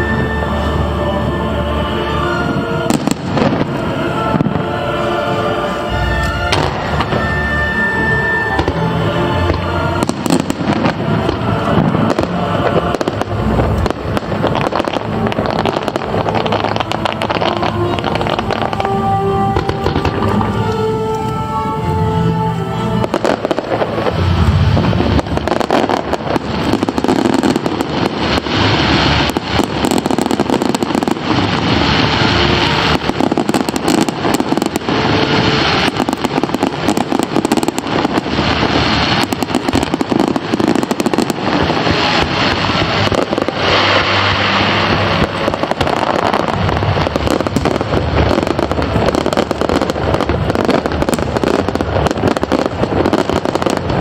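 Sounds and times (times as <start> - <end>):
fireworks hissing crackle: 0.0 - 54.0
fireworks booming: 2.3 - 22.2, 22.9 - 54.0.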